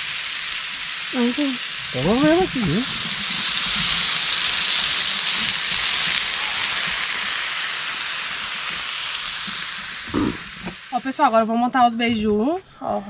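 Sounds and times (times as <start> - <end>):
meat and cheese sizzling on griddle: 0.0 - 12.1.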